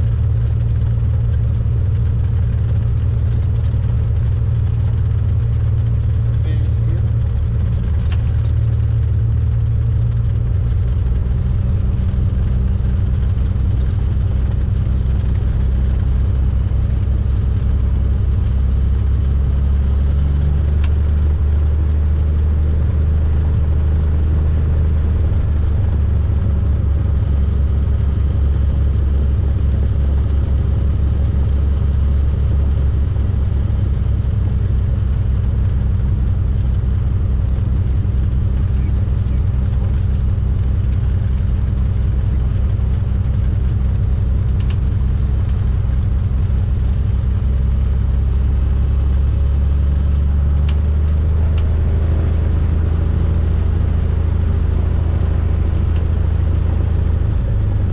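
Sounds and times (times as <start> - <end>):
propeller plane engine drone: 0.0 - 57.9.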